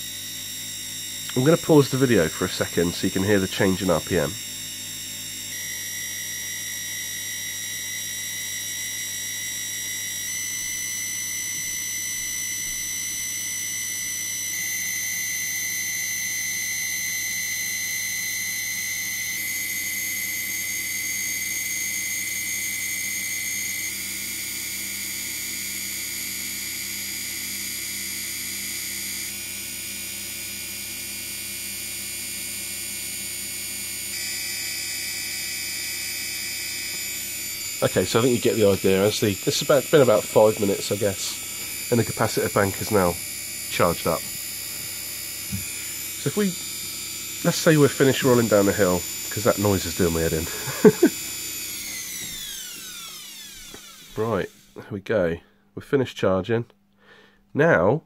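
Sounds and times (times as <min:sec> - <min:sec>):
electric motor whine: 0:00.0 - 0:54.8.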